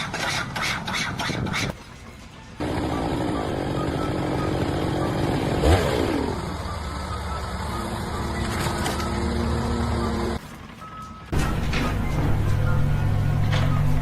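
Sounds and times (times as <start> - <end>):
engine running steadily: 2.0 - 14.0.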